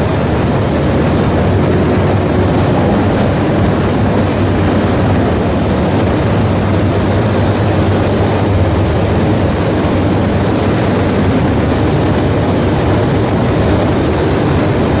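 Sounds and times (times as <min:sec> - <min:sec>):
ship diesel engine running: 0:00.0 - 0:15.0
steady high-pitched tones: 0:00.0 - 0:15.0.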